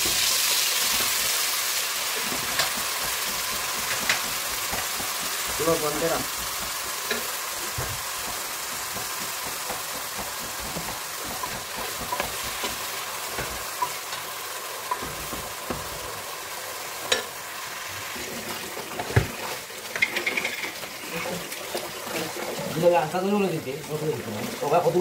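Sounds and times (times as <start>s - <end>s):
onion sizzling in oil: 0.0s - 25.0s.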